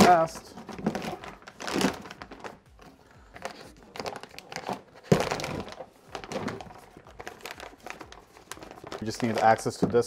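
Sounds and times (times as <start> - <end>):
plastic sheet crinkling: 0.0 - 10.0.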